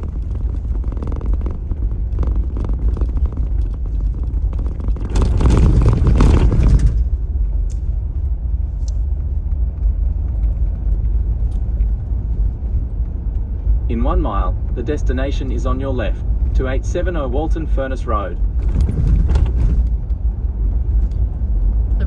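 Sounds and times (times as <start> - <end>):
car road rumble from inside: 0.0 - 22.0.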